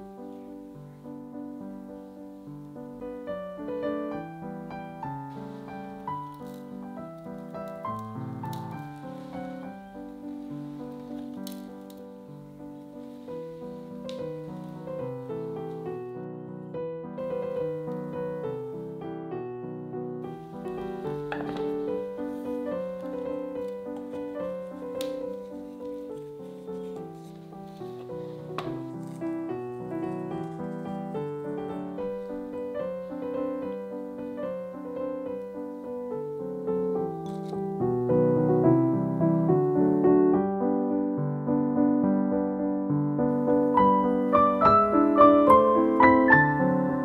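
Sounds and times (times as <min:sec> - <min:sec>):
piano music: 0:00.0 - 0:47.0.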